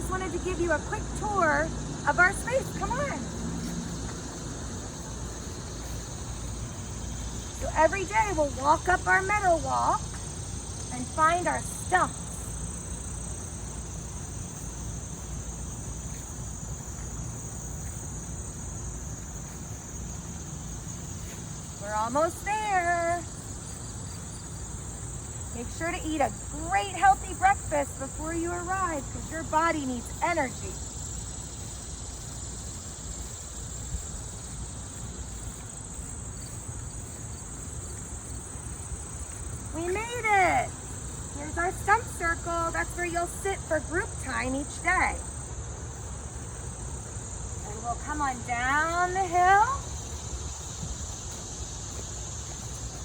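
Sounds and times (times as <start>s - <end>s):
crickets chirring: 0.0s - 53.0s
high-pitched insect chorus: 0.0s - 53.0s.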